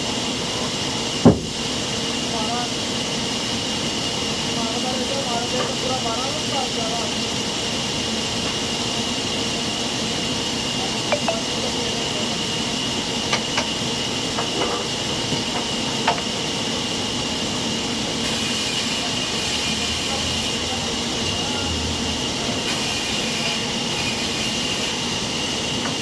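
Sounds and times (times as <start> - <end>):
sawmill machinery whining: 0.1 - 26.0.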